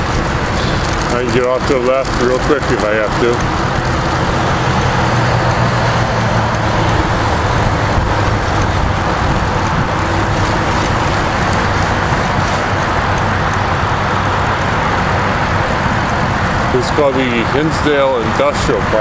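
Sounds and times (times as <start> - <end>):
road traffic noise: 0.0 - 19.0
vehicle engine hum: 0.0 - 19.0.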